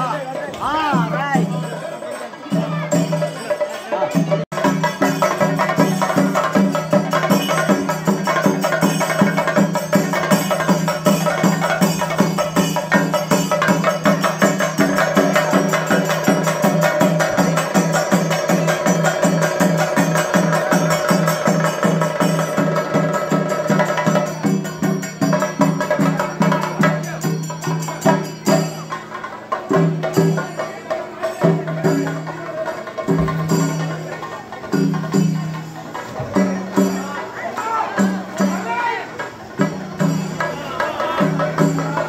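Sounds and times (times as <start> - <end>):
rapid drum strokes: 0.0 - 42.0.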